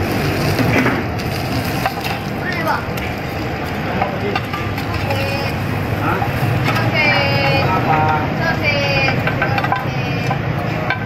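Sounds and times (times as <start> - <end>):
fish sizzling in oil: 0.0 - 10.9
low burner rumble: 0.0 - 11.0.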